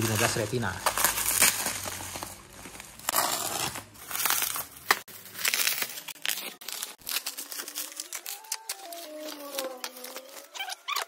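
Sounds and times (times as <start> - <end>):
bubble wrap crinkling and tearing: 0.0 - 11.0.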